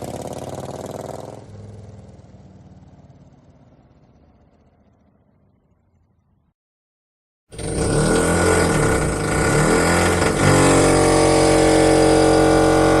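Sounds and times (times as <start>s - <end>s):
motorcycle engine revving: 0.0s - 5.2s, 7.5s - 13.0s.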